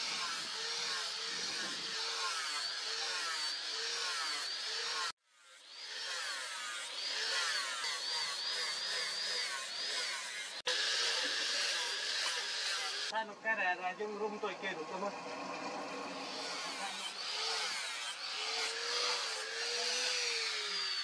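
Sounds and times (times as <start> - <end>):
angle grinder grinding steel: 0.0 - 13.2, 14.2 - 21.0.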